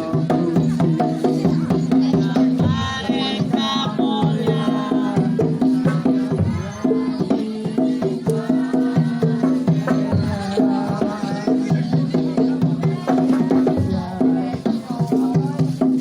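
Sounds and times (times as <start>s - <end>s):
fast drumming: 0.0s - 16.0s.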